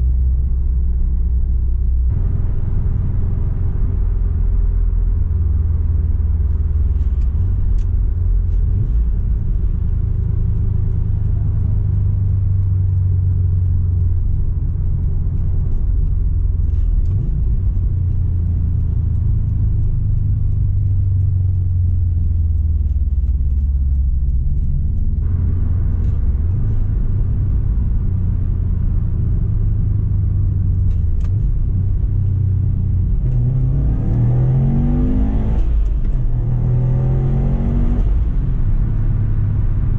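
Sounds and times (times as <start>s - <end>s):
car accelerating: 0.0s - 39.9s
car engine low rumble: 0.0s - 39.9s.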